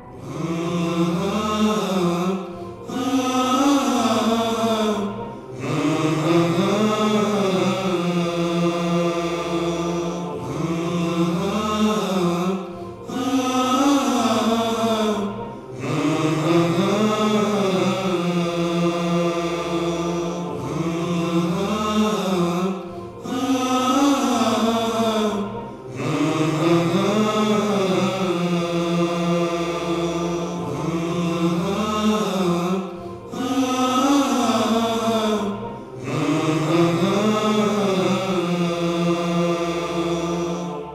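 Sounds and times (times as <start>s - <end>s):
person chant-like singing: 0.0s - 40.9s.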